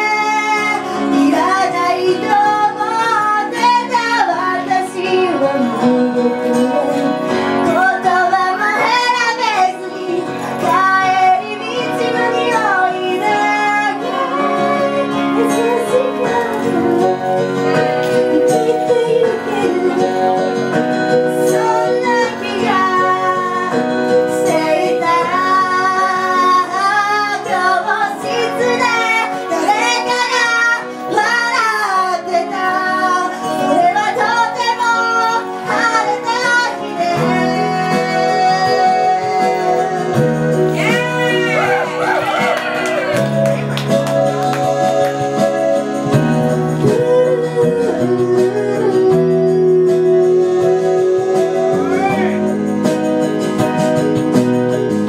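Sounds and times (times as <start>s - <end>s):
young female voices singing pop: 0.0s - 43.4s, 44.6s - 52.3s
instrumental accompaniment: 0.0s - 55.0s.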